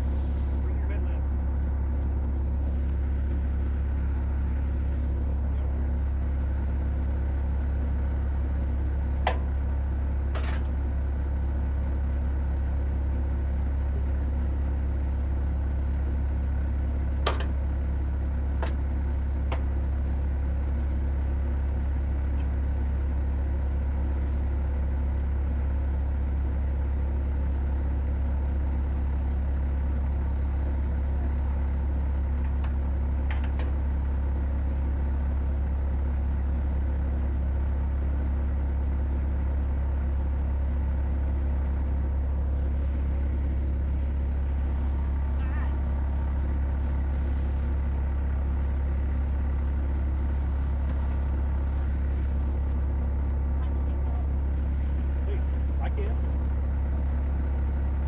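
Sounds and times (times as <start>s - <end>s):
low engine-like rumble: 0.0s - 58.0s.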